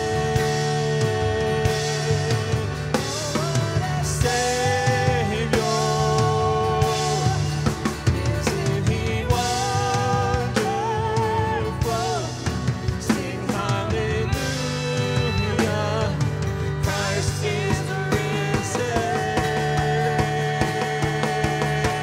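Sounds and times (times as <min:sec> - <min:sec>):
drum kit with cymbals: 0:00.0 - 0:22.0
person singing: 0:00.0 - 0:22.0
sustained low bass: 0:00.0 - 0:22.0.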